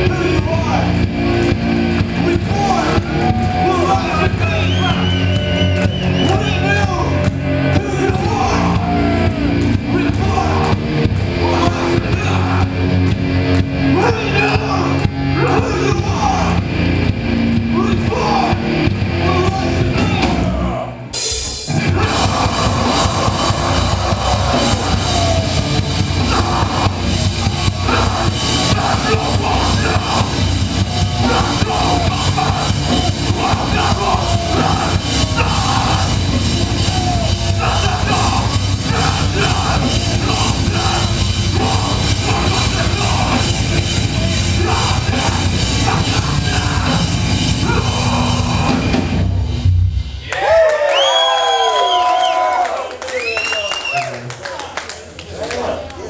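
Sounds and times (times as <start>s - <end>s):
rock band playing: 0.0s - 50.4s.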